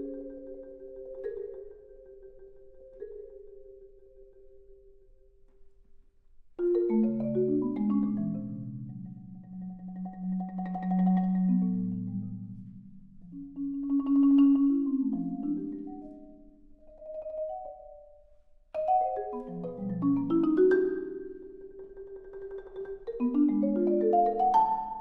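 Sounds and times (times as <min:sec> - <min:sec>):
marimba played with mallets: 0:00.0 - 0:05.4, 0:06.6 - 0:25.0.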